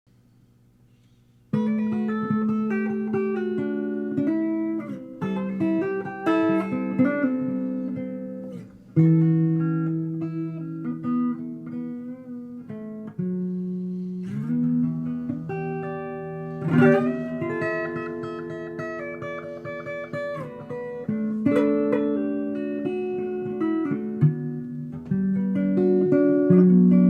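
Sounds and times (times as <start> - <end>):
solo guitar: 0.9 - 27.0.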